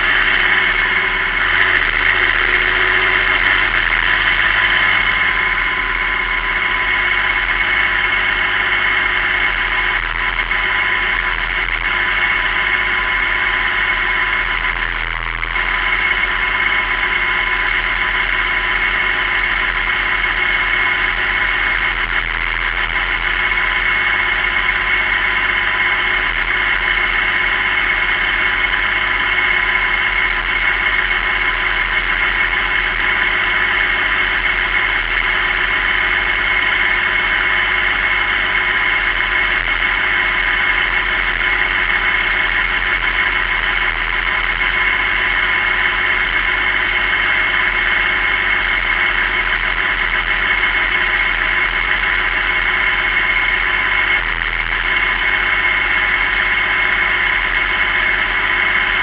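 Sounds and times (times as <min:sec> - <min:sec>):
steady high whine: 0:00.0 - 0:59.0
tractor diesel engine drone: 0:00.0 - 0:59.0.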